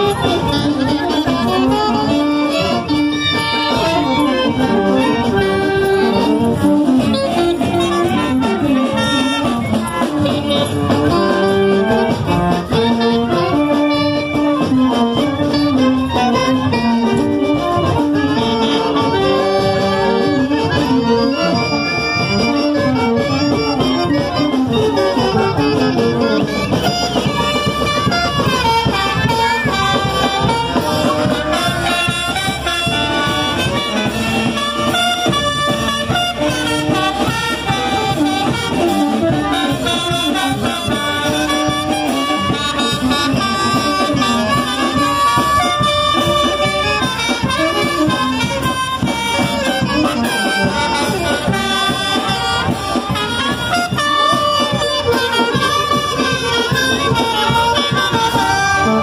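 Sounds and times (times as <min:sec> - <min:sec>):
brass band playing dance music: 0:00.0 - 0:59.0
trumpets playing melody: 0:00.0 - 0:59.0.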